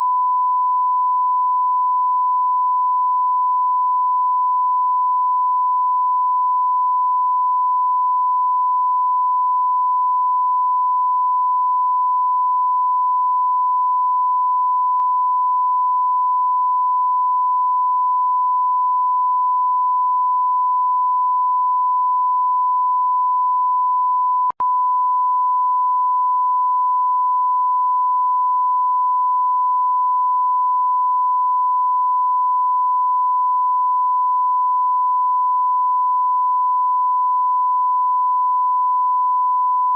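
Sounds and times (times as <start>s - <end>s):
censor bleep tone: 0.0s - 39.9s.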